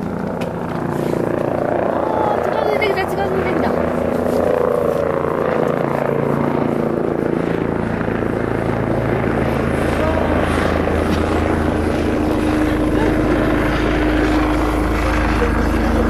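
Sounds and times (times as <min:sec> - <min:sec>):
helicopter engine hum: 0:00.0 - 0:16.0
helicopter rotor beating: 0:00.0 - 0:16.0.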